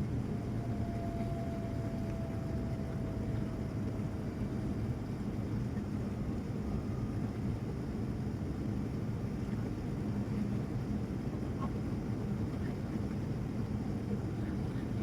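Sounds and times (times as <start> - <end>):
airplane cabin roar: 0.0 - 15.0.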